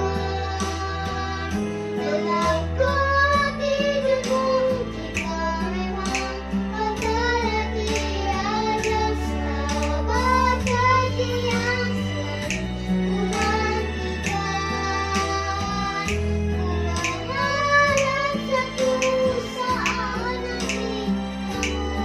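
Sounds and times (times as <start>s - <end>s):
backing track with bass line: 0.0s - 22.0s
child singing: 0.0s - 22.0s.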